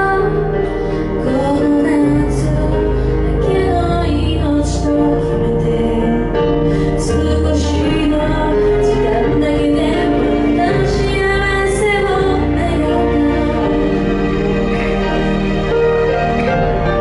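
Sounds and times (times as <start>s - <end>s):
woman singing into microphone: 0.0s - 14.2s
backing music: 0.0s - 17.0s.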